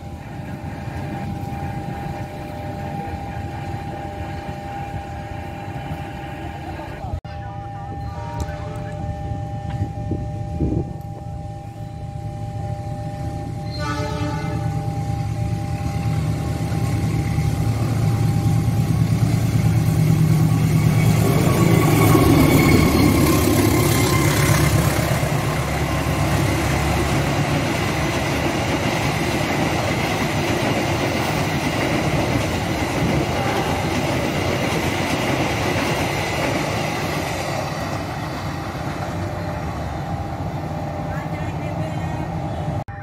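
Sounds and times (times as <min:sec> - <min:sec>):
passenger train passing: 0:00.0 - 0:43.0.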